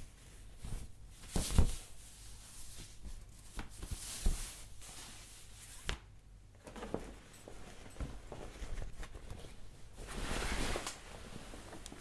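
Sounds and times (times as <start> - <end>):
fabric rustling and swishing: 0.0 - 5.9, 7.0 - 12.0.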